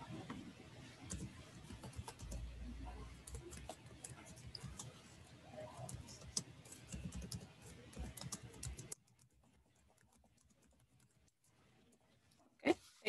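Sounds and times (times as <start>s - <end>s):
faint keyboard typing: 0.0s - 12.4s.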